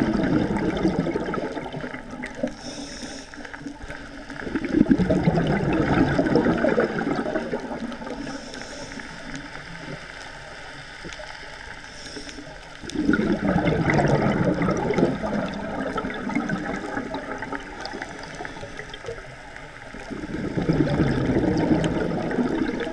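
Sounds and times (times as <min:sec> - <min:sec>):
regulator bubbling underwater: 0:00.0 - 0:11.5, 0:12.4 - 0:22.9
water noise: 0:00.0 - 0:22.9.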